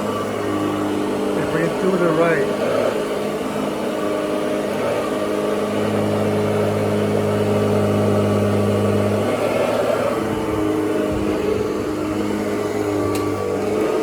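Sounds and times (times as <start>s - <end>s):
vacuum cleaner motor hum: 0.0s - 14.0s.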